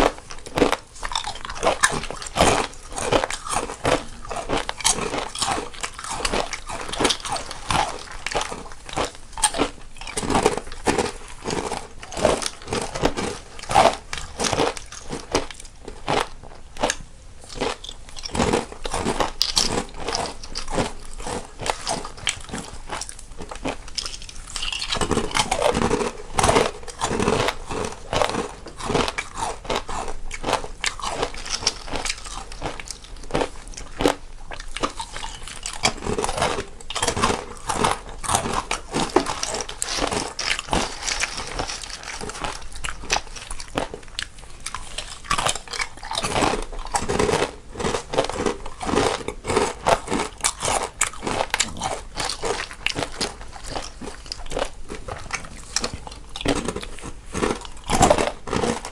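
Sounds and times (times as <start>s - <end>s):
chewing: 0.0s - 58.9s
people crunching crisp snacks: 0.0s - 58.9s.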